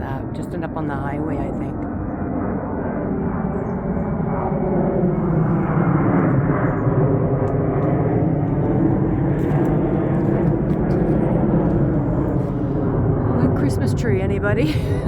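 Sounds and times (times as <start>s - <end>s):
distant engine rumble: 0.0s - 15.0s.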